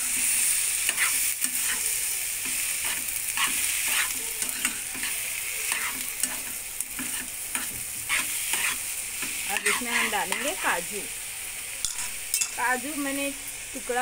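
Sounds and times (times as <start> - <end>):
spoon scraping pan: 0.0 - 10.7, 11.8 - 12.6
tomatoes and onions sizzling in oil: 0.0 - 14.0.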